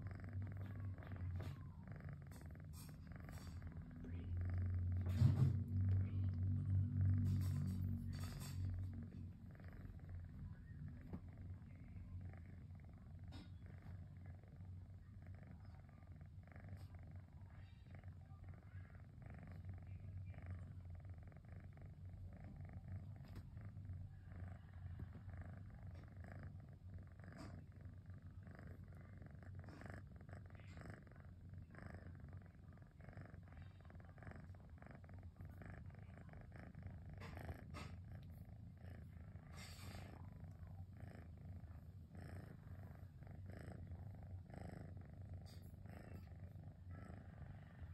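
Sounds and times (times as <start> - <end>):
kitten purring: 0.0 - 47.9.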